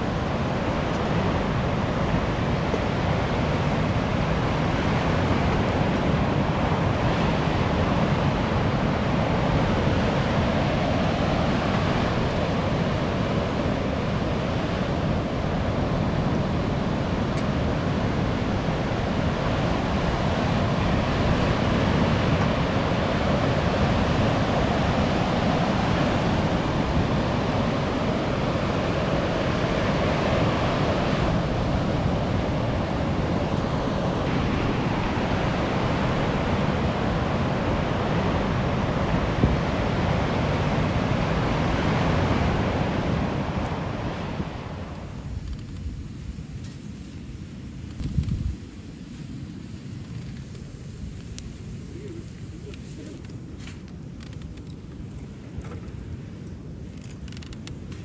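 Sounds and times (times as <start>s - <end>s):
sea waves on a beach: 0.0s - 58.0s
wind: 0.0s - 58.0s.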